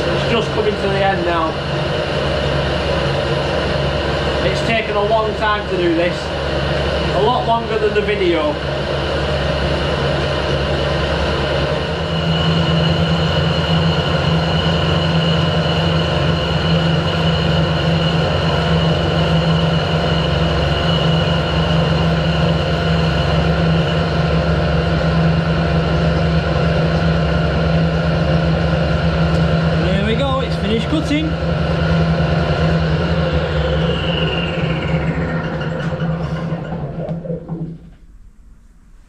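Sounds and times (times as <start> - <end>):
lathe machine hum: 0.0 - 38.6
high whine of boring bar: 0.0 - 39.0.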